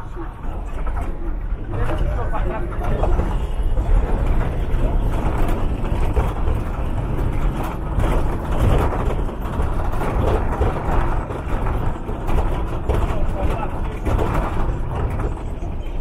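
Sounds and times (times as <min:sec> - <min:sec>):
vehicle on rough dirt road: 0:00.0 - 0:16.0.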